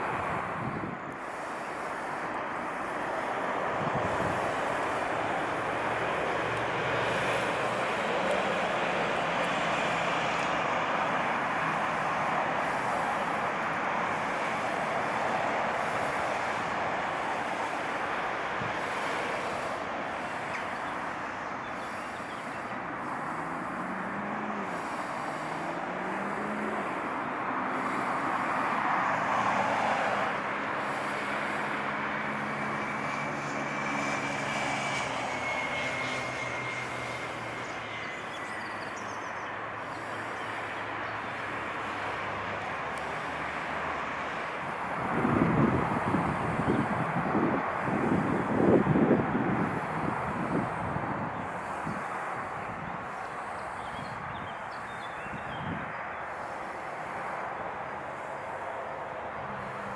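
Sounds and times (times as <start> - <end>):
engine running: 0.0 - 54.2, 56.2 - 59.9.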